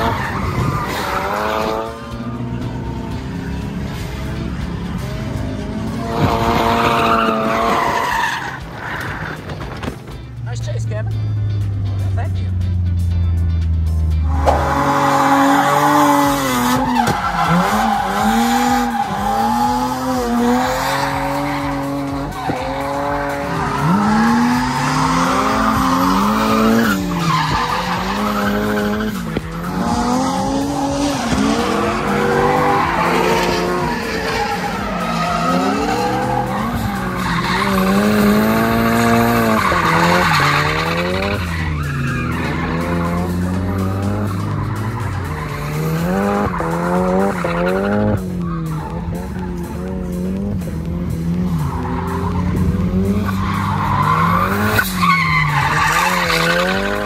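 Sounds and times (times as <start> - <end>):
tyres squealing and skidding: 0.0 - 10.2, 14.2 - 57.0
car engines revving: 0.0 - 57.0.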